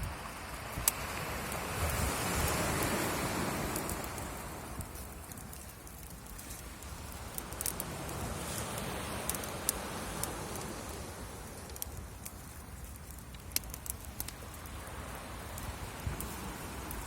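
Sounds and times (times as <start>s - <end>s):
wood bonfire crackling: 0.0s - 17.0s.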